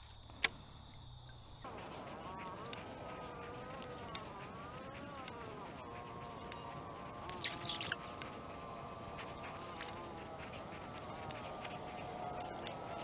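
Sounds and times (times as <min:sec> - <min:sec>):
faint scattered ticks: 0:00.0 - 0:13.0
flying insect buzzing: 0:01.6 - 0:13.0.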